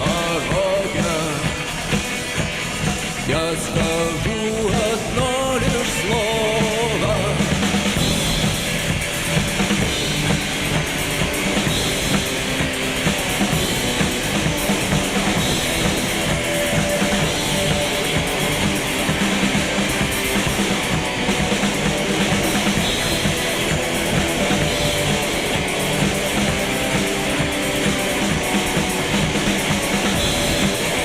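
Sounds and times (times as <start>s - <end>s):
drum kit: 0.0s - 31.0s
rock guitars: 0.0s - 31.0s.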